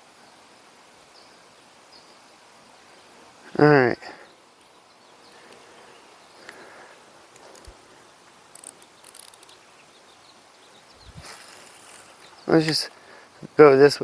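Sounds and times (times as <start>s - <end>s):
insects chirping: 1.1s - 14.0s.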